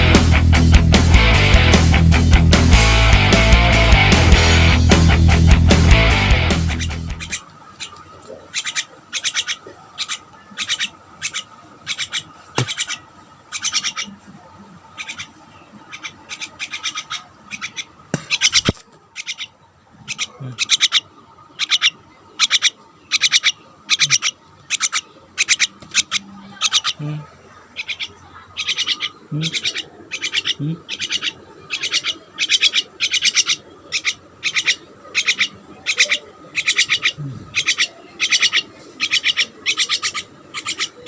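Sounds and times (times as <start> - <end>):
birds squawking: 0.0 - 41.0.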